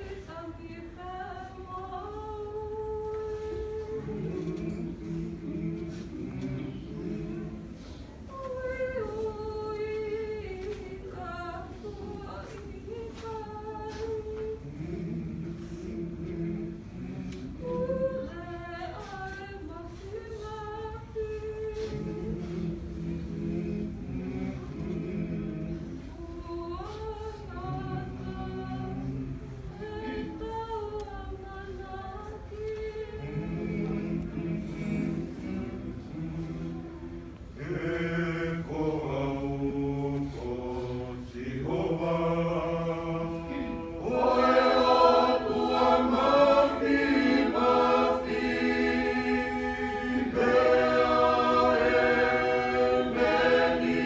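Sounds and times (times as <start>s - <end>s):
high voice singing hymn: 0.0s - 54.0s
lower voices singing: 0.0s - 54.0s.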